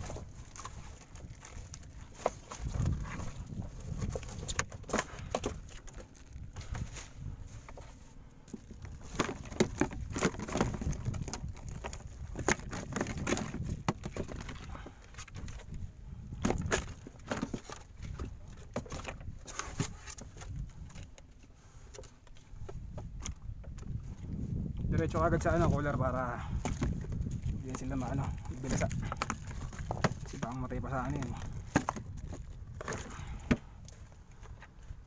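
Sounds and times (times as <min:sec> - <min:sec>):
gloved hands moving fish in cooler: 0:00.0 - 0:35.0.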